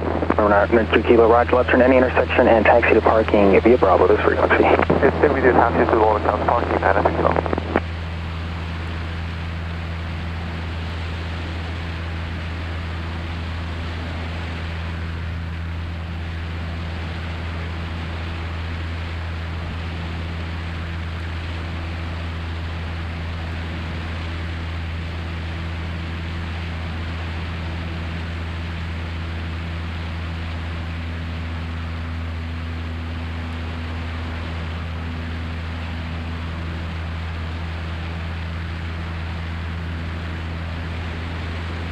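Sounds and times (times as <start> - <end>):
small plane engine drone in cockpit: 0.0 - 41.9.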